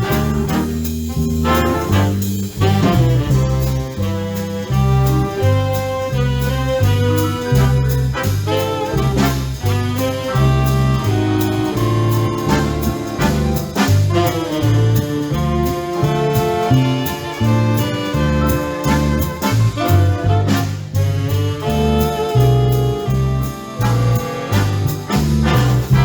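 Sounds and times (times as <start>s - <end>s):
saxophones and brass: 0.0s - 26.0s
steady drum beat: 0.0s - 26.0s
walking bass line: 0.0s - 26.0s.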